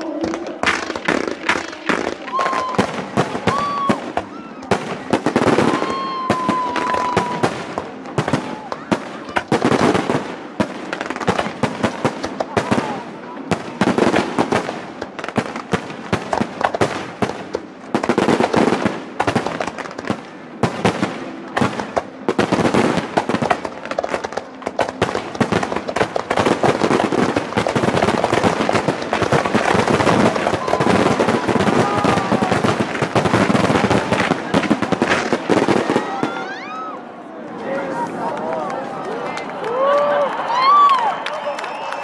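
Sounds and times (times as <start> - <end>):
fireworks bangs and crackling: 0.0 - 36.9.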